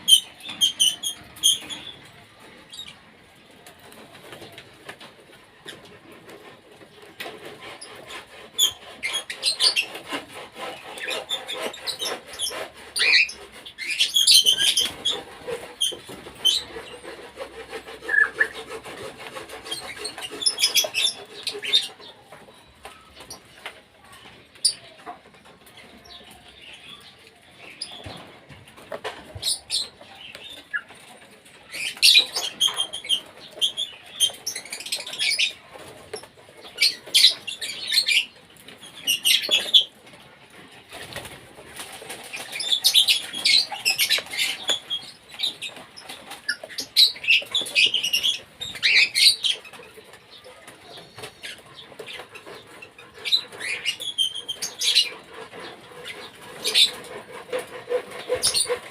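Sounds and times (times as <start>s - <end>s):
small parrots chirping and calling: 0.0s - 3.0s, 5.6s - 40.0s, 40.9s - 58.9s.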